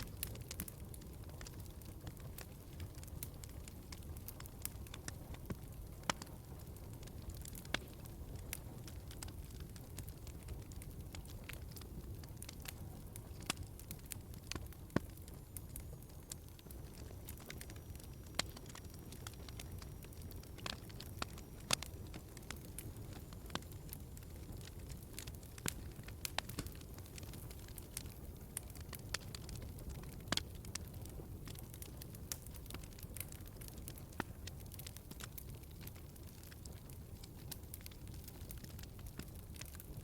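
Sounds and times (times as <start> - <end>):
fire crackling and popping: 0.0 - 40.0
fire rumbling and hissing: 0.0 - 40.0.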